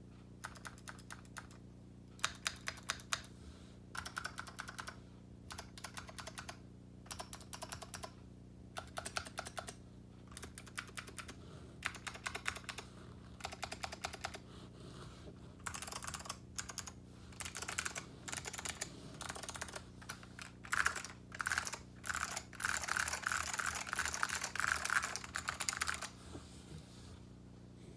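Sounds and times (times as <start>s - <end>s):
mechanical keyboard typing: 0.4s - 1.6s, 2.2s - 3.3s, 4.0s - 8.2s, 8.8s - 14.4s, 15.6s - 26.1s.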